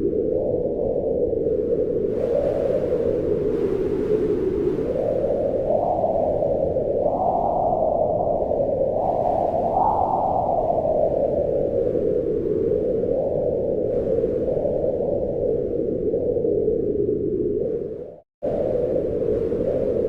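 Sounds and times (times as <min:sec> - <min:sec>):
wind whistling: 0:00.0 - 0:20.0.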